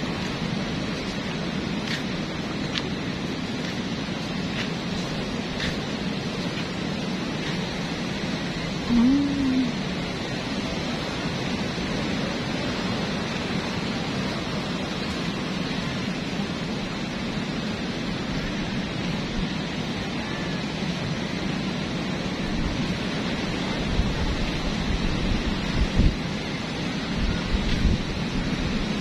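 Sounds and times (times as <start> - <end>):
steady rushing wind: 0.0 - 29.0
wind gusts buffeting microphone: 0.0 - 29.0.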